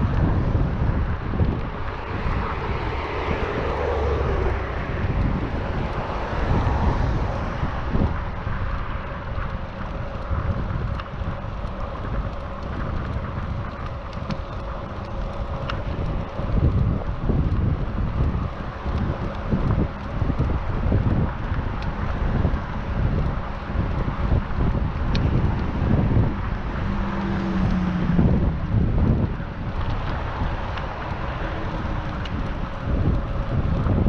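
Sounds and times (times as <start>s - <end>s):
passing vehicle: 0.0s - 34.0s
wind buffeting microphone: 0.0s - 34.0s.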